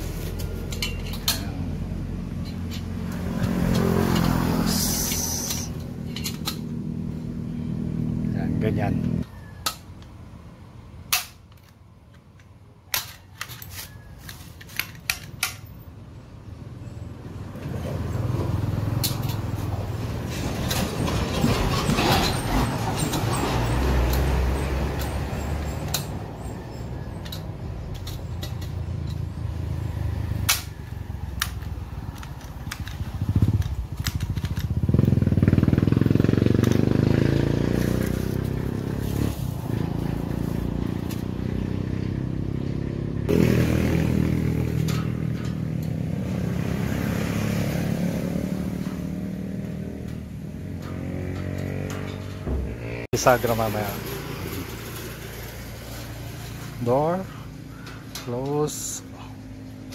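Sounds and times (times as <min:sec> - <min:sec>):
vehicles passing on road: 0:00.0 - 0:59.9.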